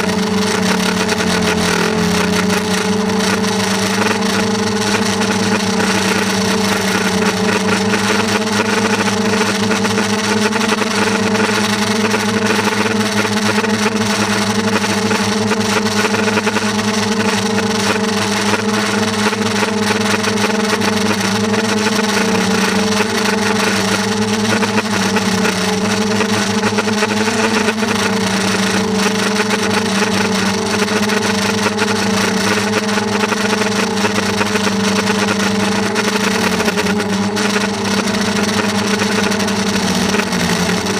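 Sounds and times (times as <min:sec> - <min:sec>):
small motor droning: 0:00.0 - 0:40.9.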